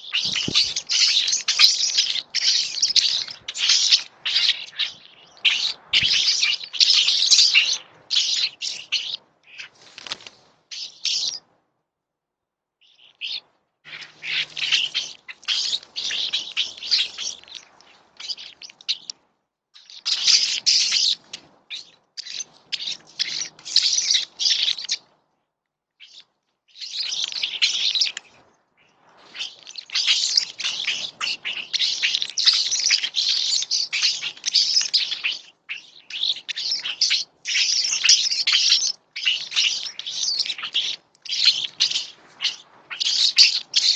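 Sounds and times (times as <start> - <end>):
birds chirping: 0.0 - 11.4, 12.8 - 19.2, 19.8 - 25.2, 26.0 - 43.9.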